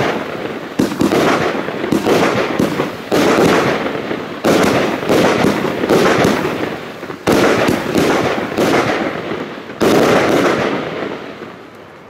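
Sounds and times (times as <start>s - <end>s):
fireworks reports with rushing tails: 0.0s - 12.0s.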